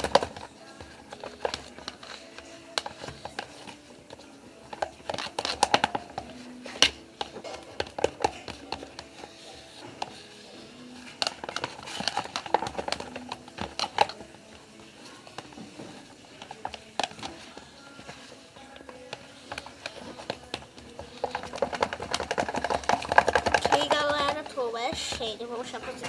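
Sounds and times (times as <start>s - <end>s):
clicks and scrapes against container: 0.0s - 26.0s
slime stirred in container: 0.0s - 26.0s.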